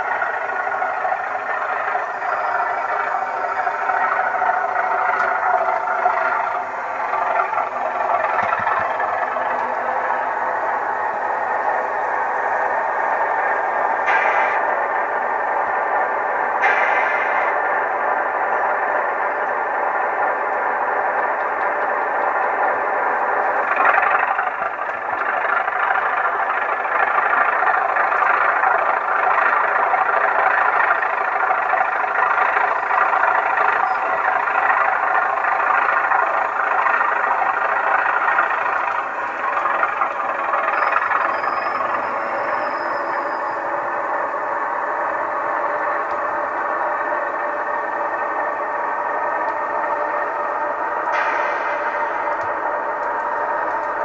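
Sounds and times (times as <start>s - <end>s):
diesel engine through small speaker: 0.0s - 54.0s.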